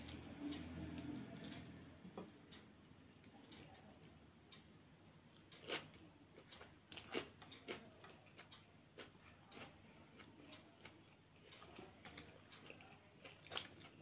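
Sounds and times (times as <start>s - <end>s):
faint chewing with crunches: 0.0s - 14.0s.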